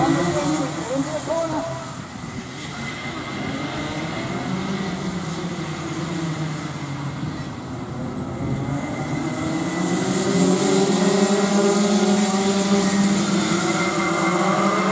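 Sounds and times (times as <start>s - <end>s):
go-kart engines racing: 0.0s - 14.9s.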